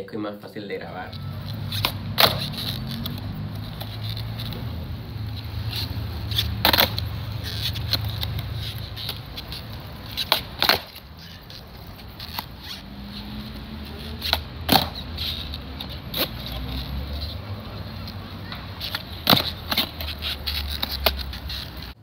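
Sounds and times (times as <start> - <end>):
skateboard wheels rumbling: 0.9 - 22.0
skateboard clacks: 1.4 - 22.0.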